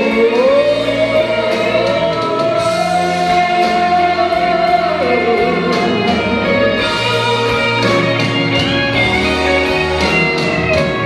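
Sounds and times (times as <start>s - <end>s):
instrumental accompaniment: 0.0s - 11.0s.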